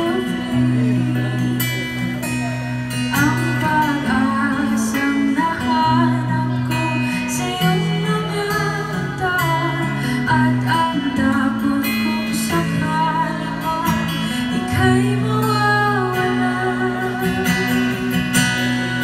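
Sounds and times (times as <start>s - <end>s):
acoustic guitar ballad: 0.0s - 19.0s.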